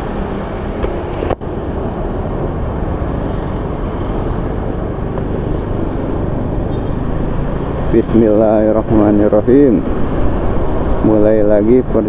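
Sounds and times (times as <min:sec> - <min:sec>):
vehicle rumble and hiss: 0:00.0 - 0:12.0.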